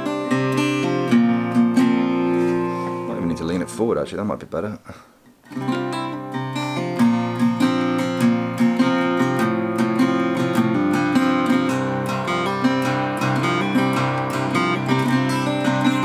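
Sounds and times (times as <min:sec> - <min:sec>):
acoustic guitar chords: 0:00.0 - 0:04.2, 0:05.4 - 0:16.0.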